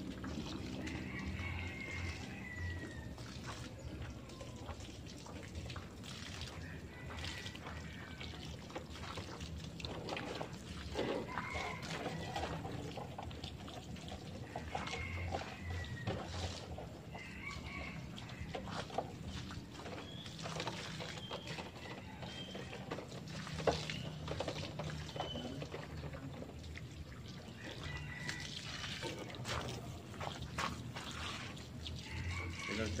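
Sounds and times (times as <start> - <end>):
hose water splashing: 0.0 - 33.0.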